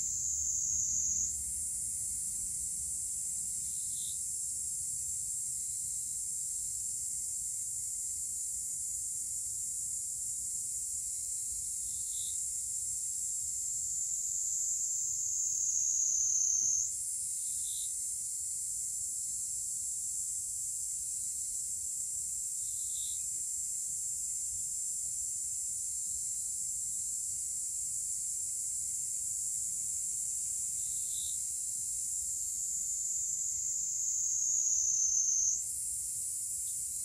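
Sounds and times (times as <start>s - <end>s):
insect chorus: 0.0s - 37.0s.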